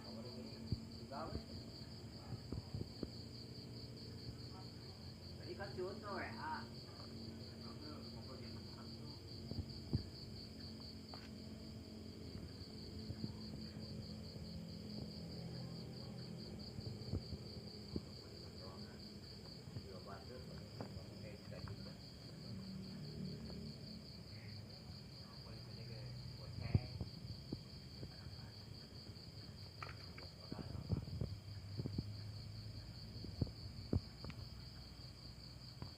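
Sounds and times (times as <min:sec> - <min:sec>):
crickets chirping: 0:00.0 - 0:35.9
low background noise: 0:00.0 - 0:35.9.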